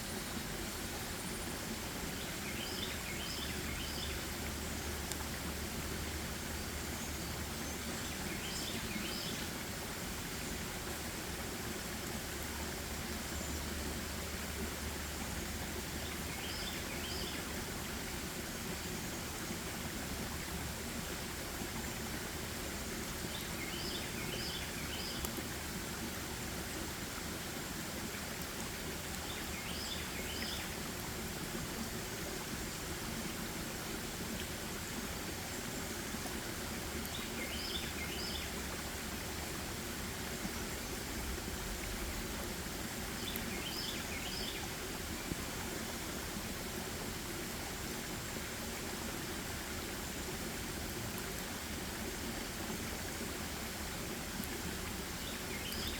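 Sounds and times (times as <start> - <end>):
stream rushing: 0.0 - 55.9.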